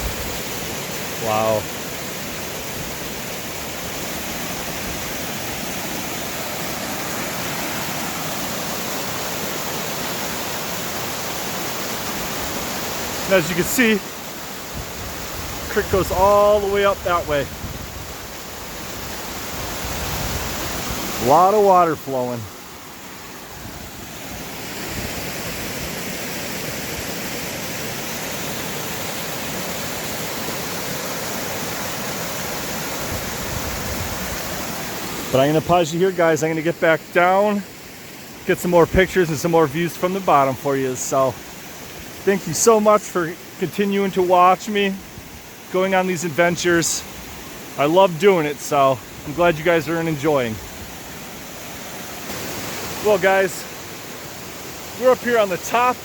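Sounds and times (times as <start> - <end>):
water rushing over waterfall: 0.0 - 56.0.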